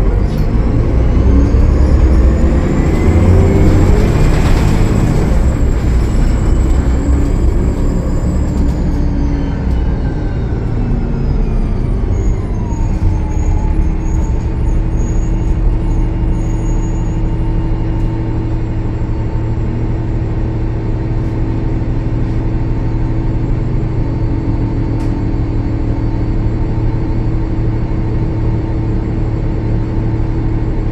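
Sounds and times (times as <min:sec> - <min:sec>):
bus engine whining: 0:00.0 - 0:30.9.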